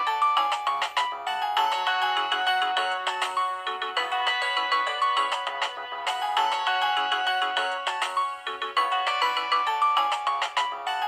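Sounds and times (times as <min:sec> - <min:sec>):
mobile phone ringtone melody: 0:00.0 - 0:11.0.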